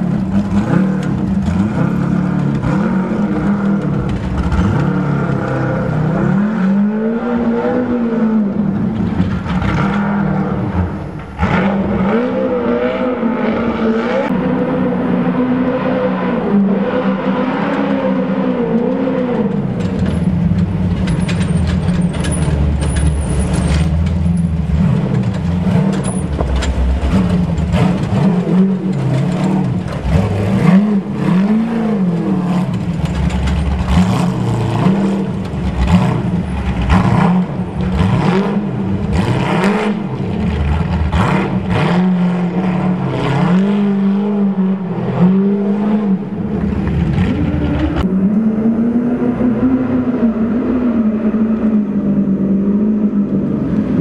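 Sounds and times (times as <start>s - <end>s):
buggy engines revving: 0.0s - 54.0s.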